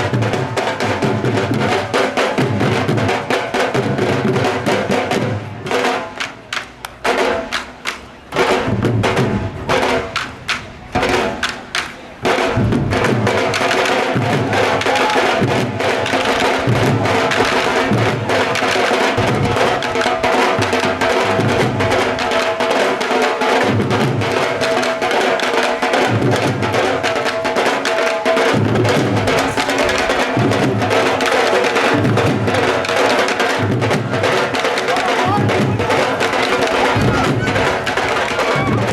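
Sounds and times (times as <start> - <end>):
drums in a fast rhythm: 0.0 - 38.9.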